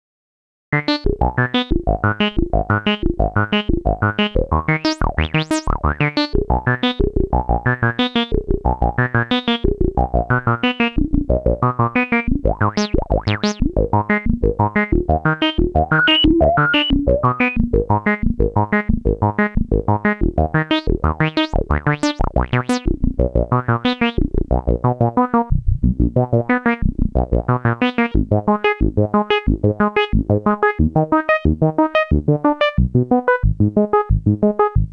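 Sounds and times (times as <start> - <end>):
electronic keyboard notes: 0.8 - 34.9.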